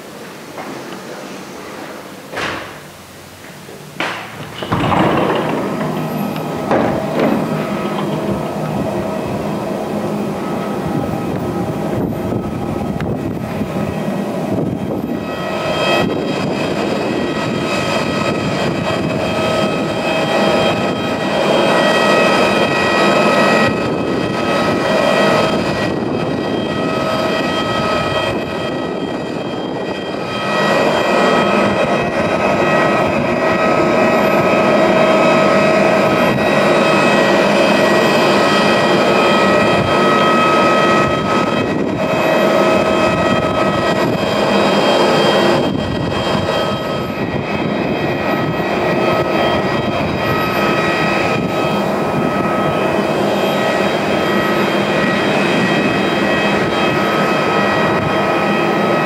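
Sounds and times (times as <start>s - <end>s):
jet engine high whine: 0.0s - 59.0s
jet engine roar: 0.0s - 59.0s.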